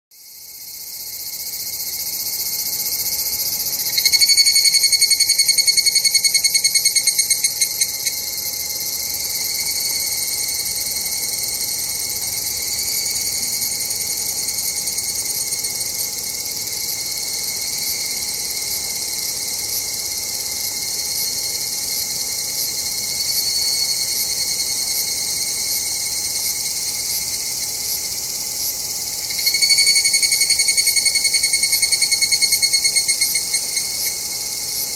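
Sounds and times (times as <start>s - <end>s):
close cicada pulsed song: 0.1s - 34.9s
cicada chorus: 0.2s - 34.9s.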